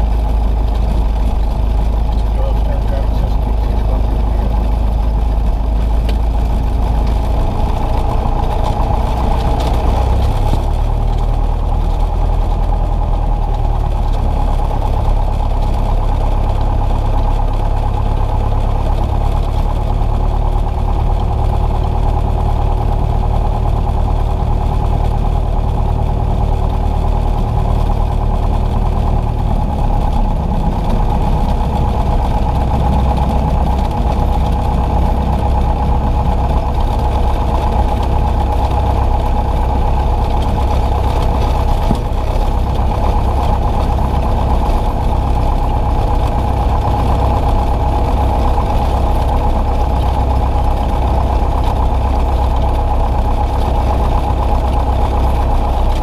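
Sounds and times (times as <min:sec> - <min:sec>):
propeller aircraft engine droning: 0:00.0 - 0:56.0.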